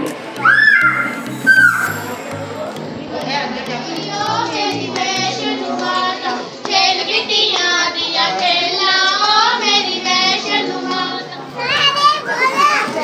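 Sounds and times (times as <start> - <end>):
high voices singing: 0.0 - 13.0.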